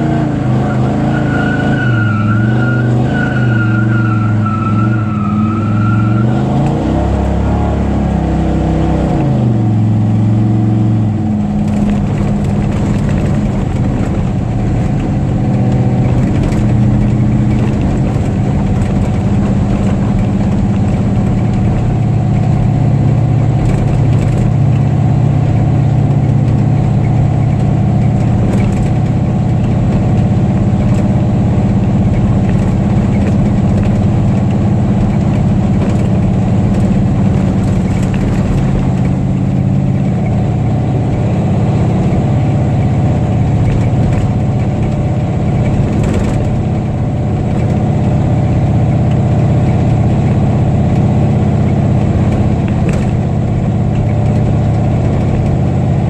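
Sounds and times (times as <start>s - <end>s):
car engine revving down and idling: 0.0s - 56.0s.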